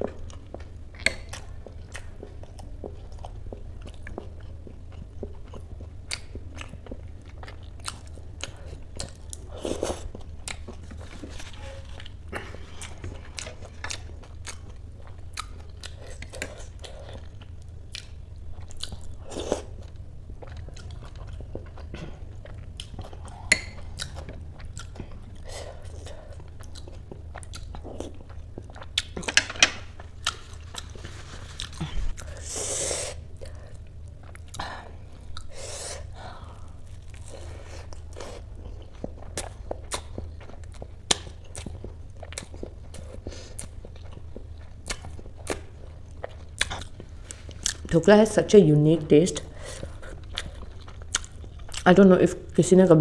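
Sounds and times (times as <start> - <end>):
chewing with clicks and crunches: 0.0 - 32.4, 33.3 - 35.6, 36.4 - 48.2, 49.4 - 52.6
steady low hum: 0.0 - 53.0.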